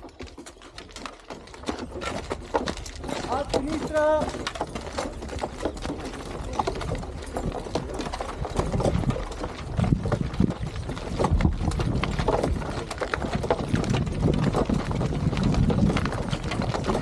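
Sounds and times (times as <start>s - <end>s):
armour and shields clanking: 0.0s - 14.6s.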